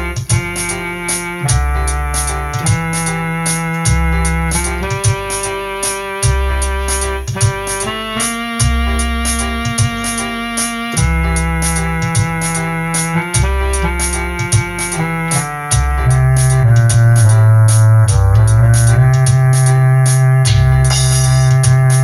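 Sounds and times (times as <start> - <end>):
keyboard gospel instrumental: 0.0 - 22.0.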